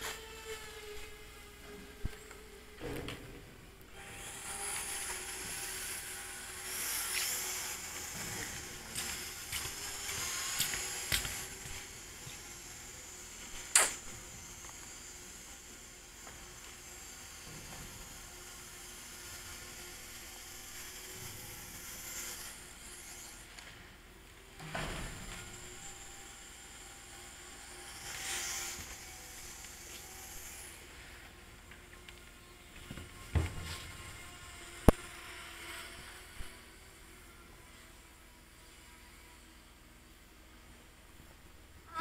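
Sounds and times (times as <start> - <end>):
electric motors and propellers whining: 0.0 - 42.0.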